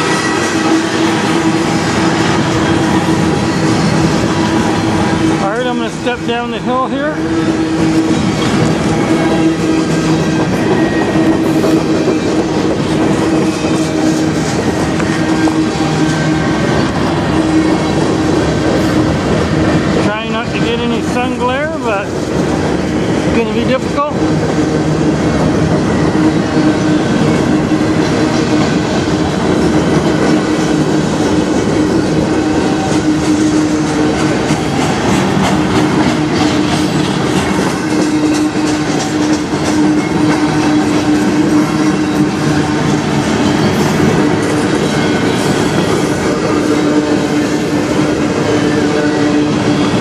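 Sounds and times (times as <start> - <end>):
train wheels rumbling on rails: 0.0 - 50.0
wheels clacking over rail joints: 0.0 - 50.0.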